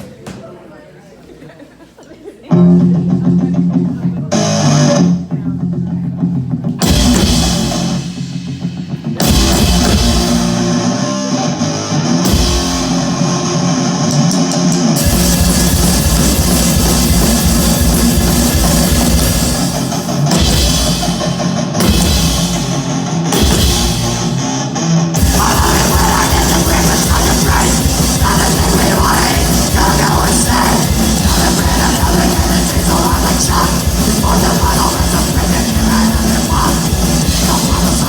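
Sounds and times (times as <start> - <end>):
heavy rock band playing: 2.6 - 38.0.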